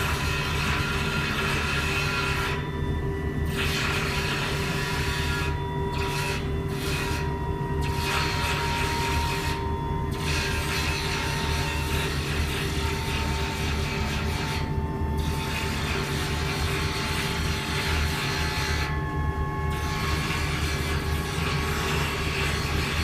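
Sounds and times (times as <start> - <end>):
low machine drone with whistle: 0.0 - 23.0.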